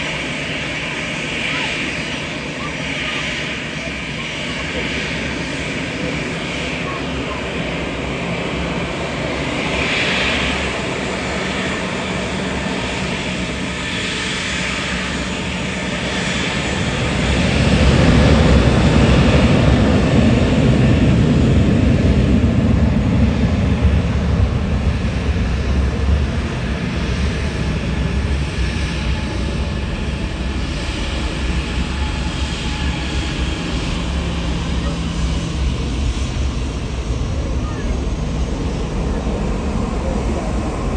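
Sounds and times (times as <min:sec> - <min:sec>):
jet engine deep rumble: 0:00.0 - 0:40.9.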